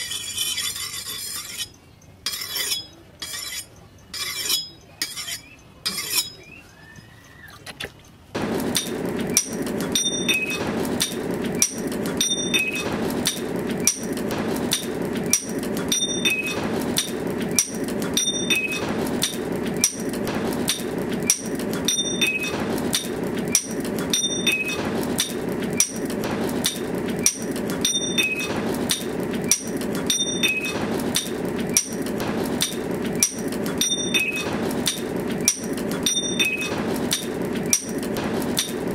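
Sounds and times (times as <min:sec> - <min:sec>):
rhythmic clicks and high tones: 0:05.6 - 0:38.9.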